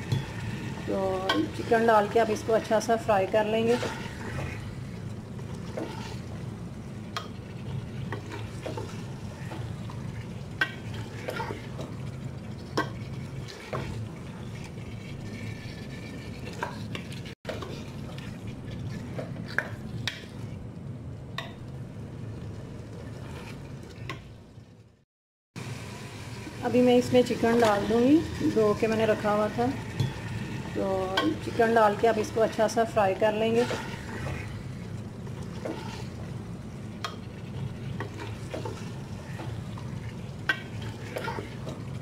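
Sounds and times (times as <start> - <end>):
faint sizzle of frying: 0.0 - 25.0, 25.6 - 42.0.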